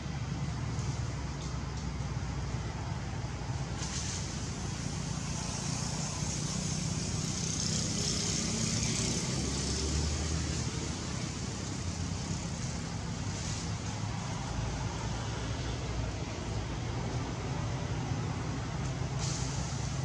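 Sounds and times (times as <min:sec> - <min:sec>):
high hiss: 0:00.1 - 0:20.0.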